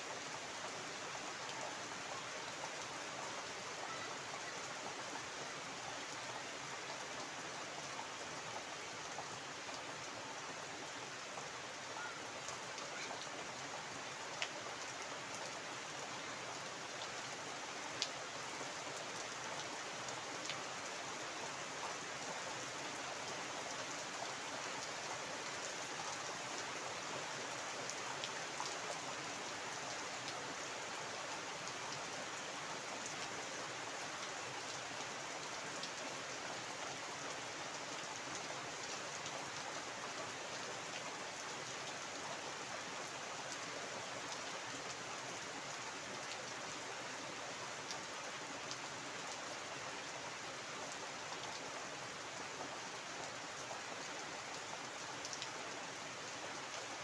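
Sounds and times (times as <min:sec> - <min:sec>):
heavy rain on standing water: 0:00.0 - 0:57.0.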